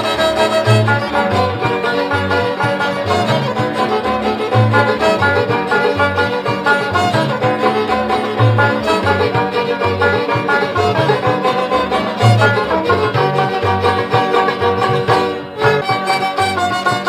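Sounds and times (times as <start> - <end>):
instrumental music with bass line: 0.0 - 17.0.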